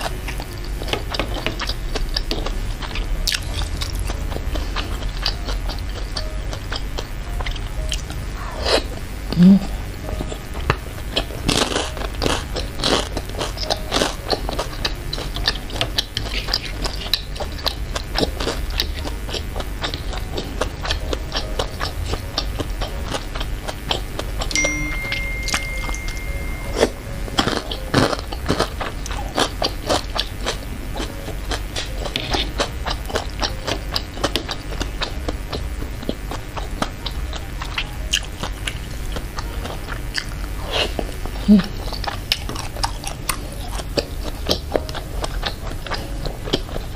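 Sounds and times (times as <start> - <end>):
wet chewing: 0.0 - 25.2, 26.7 - 46.9.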